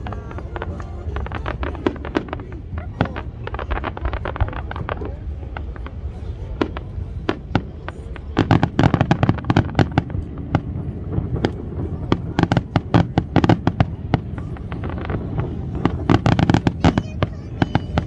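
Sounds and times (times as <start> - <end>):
fireworks cracks and bangs: 0.0 - 18.0
steady low rumble: 0.0 - 18.0.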